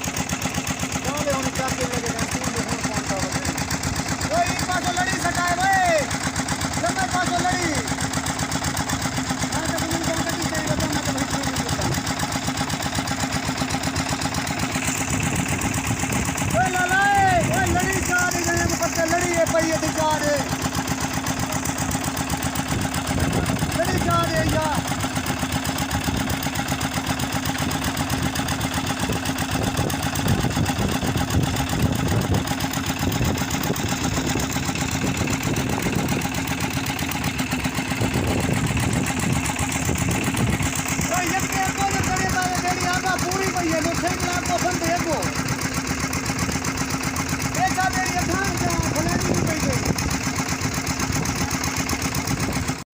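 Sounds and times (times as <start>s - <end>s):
engine idling: 0.0s - 52.9s.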